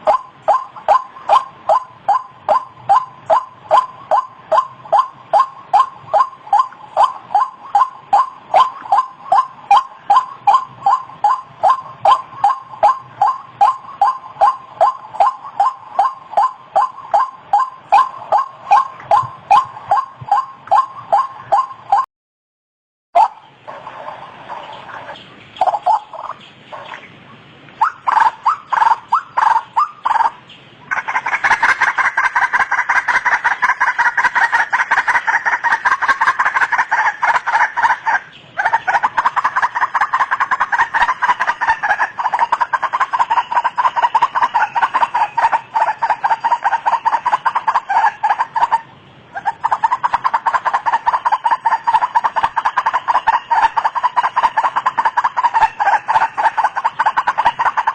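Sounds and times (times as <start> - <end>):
waterhen calling: 0.0 - 22.1, 23.2 - 57.9.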